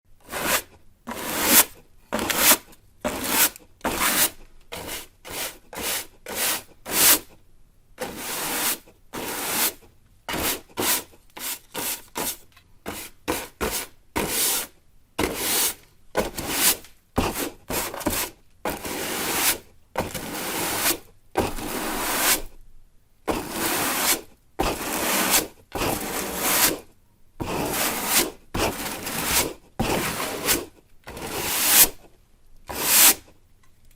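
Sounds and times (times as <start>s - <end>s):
broom sweeping a floor: 0.2s - 7.4s, 8.0s - 22.6s, 23.3s - 32.1s, 32.7s - 33.3s.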